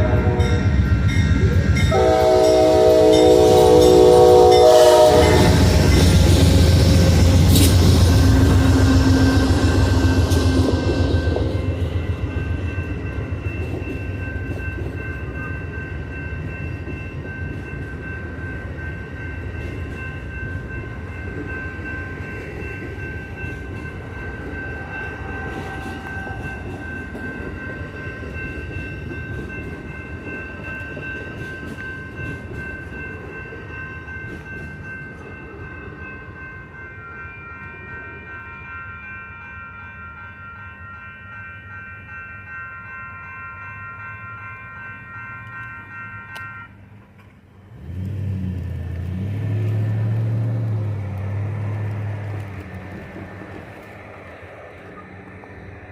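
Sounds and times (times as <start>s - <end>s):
crossing warning bells: 0.0s - 55.9s
passenger train passing: 0.0s - 55.9s.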